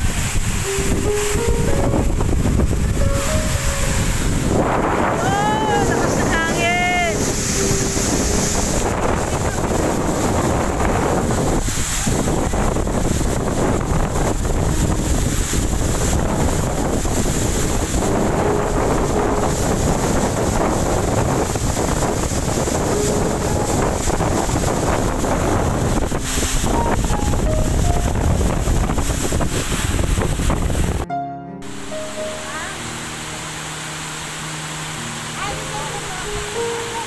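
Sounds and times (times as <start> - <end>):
waterfall pouring onto rocks: 0.0 - 31.0, 32.5 - 37.0
wind buffeting microphone: 0.0 - 31.1.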